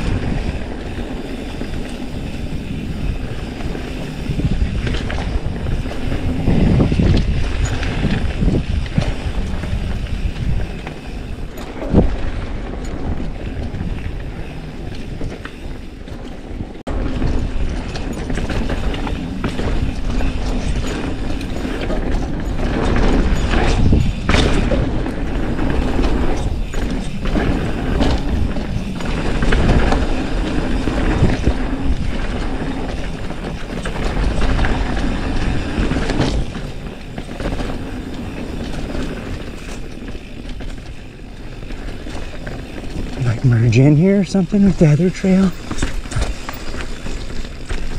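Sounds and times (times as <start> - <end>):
bike rattling over bumps: 0.0 - 47.9
bike tyre rolling on dirt: 0.0 - 47.9.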